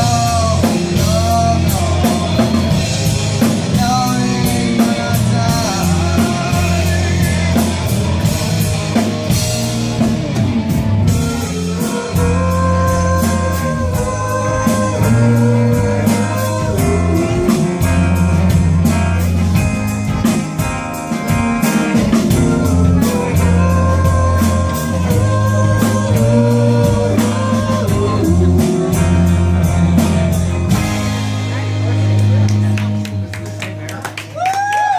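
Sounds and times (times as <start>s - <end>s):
bass guitar: 0.0s - 34.9s
distorted electric guitars: 0.0s - 34.9s
drum kit beat: 0.0s - 34.9s.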